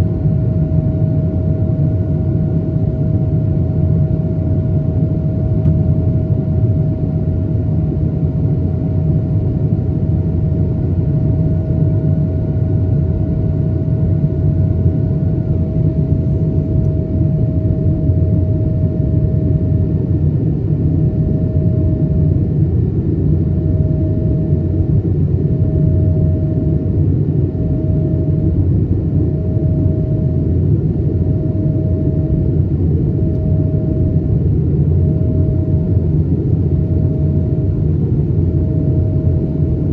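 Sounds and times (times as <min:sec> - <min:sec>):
jet engines rumbling in flight: 0:00.0 - 0:39.9.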